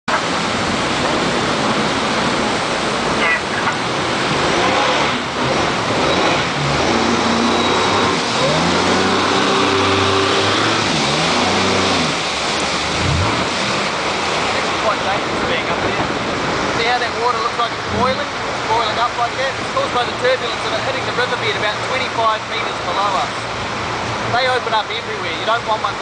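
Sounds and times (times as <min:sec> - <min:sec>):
rush of water and wind: 0:00.0 - 0:26.0
motorboat engine: 0:00.1 - 0:26.0.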